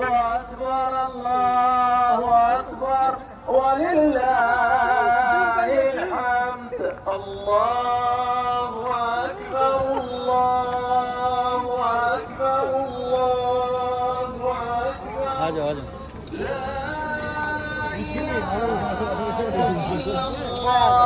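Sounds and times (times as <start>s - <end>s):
man singing long notes: 0.0s - 21.0s.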